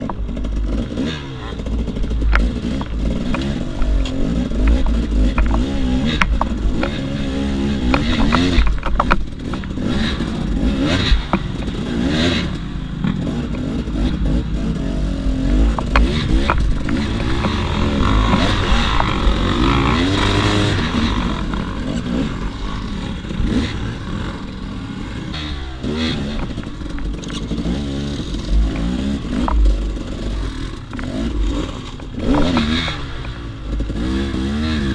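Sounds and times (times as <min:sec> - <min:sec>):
sharp knocks and clatter: 0:00.0 - 0:14.5, 0:15.4 - 0:24.2, 0:25.3 - 0:34.6
motorcycle engine revving: 0:00.0 - 0:34.9.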